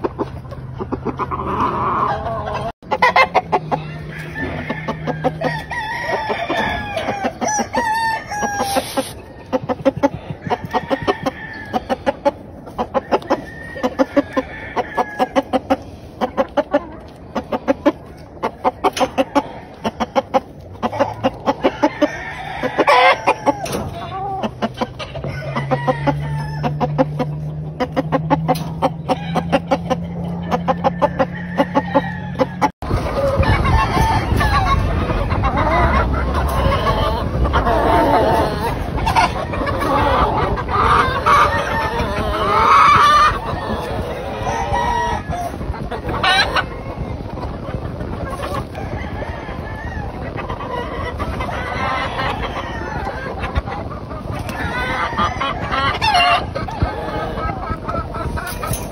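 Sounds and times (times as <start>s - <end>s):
chickens clucking: 0.0s - 58.9s
roosters crowing: 1.0s - 16.8s, 17.5s - 58.9s.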